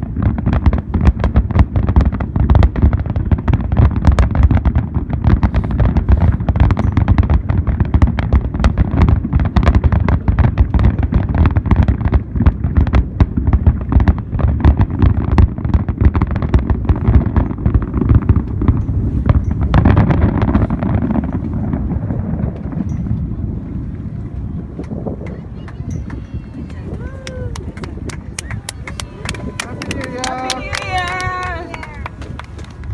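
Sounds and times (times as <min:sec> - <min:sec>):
fireworks bangs and crackles: 0:00.0 - 0:32.9
low rumble: 0:00.0 - 0:32.9.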